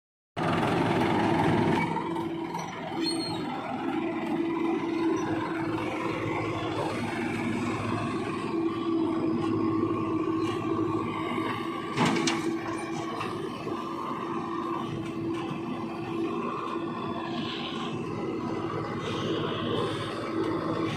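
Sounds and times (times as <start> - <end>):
diesel engine running: 0.4 - 20.9.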